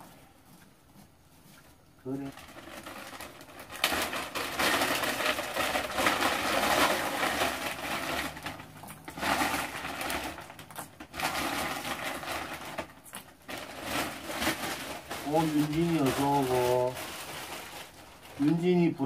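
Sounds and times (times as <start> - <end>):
plastic bag crinkling: 2.0 - 19.0.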